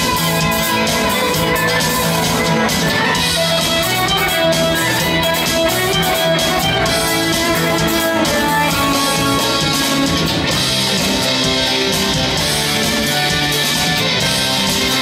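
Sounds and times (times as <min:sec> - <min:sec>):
live band playing guitar music: 0:00.0 - 0:15.0.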